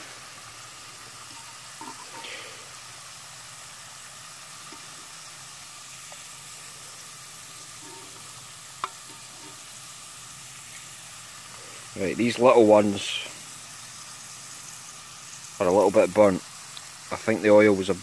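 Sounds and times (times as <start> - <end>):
potato slices sizzling in oil: 0.0 - 18.0.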